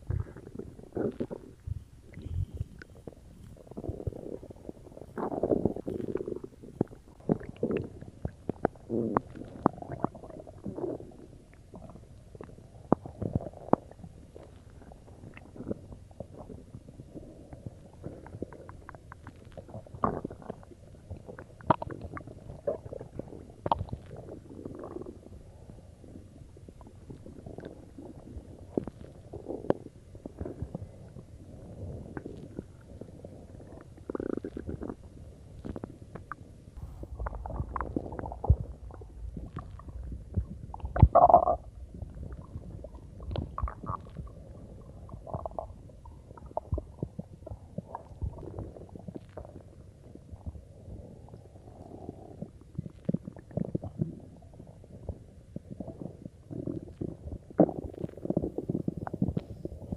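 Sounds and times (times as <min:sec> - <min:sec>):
stomach gurgling and rumbling: 0:00.0 - 0:59.9.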